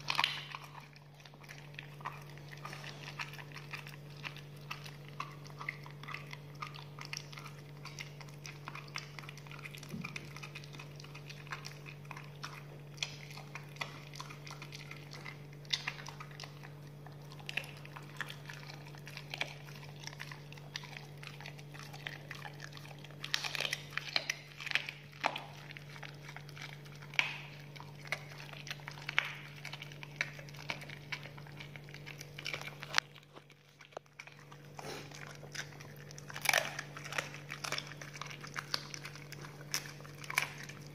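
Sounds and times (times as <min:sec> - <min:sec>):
dog chewing and crunching bone: 0:00.0 - 0:40.9
steady low hum: 0:00.0 - 0:40.9.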